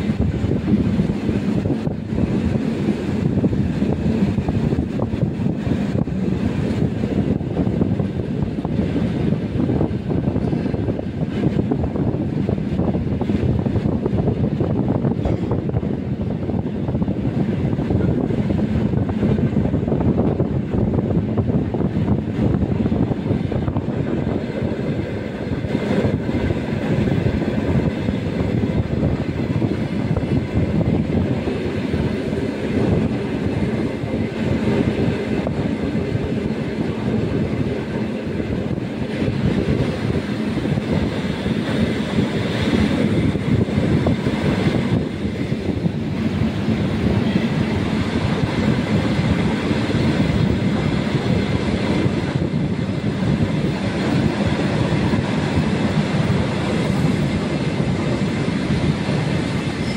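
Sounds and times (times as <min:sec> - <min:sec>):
electric train running at speed: 0:00.0 - 0:59.9
passing electric train: 0:00.0 - 0:59.9
wheels on rail: 0:00.0 - 0:59.9.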